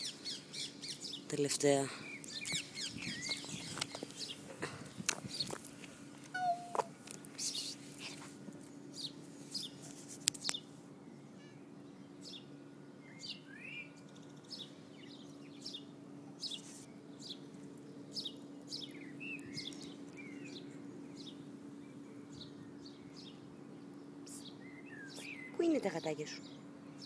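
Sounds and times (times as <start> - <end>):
faint low hum: 0.0 - 27.0
small birds chirping: 0.0 - 27.0.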